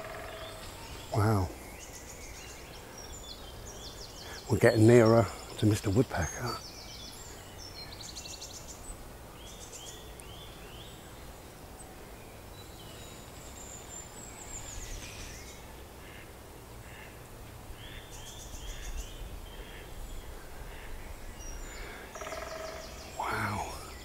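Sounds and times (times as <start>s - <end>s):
small birds singing: 0.0s - 24.0s.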